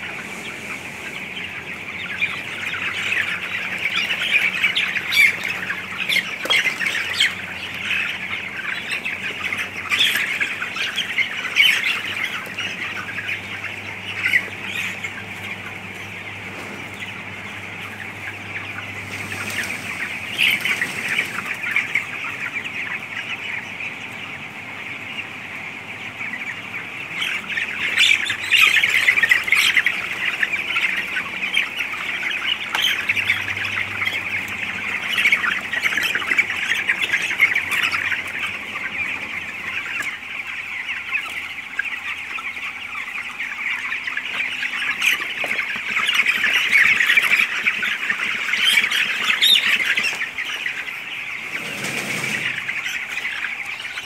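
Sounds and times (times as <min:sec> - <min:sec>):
chickens cheeping and squawking: 0:00.0 - 0:54.0.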